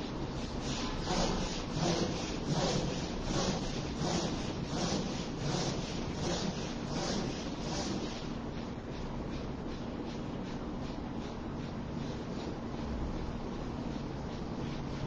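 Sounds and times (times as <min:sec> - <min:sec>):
rhythmic forceful breathing: 0:00.0 - 0:15.0.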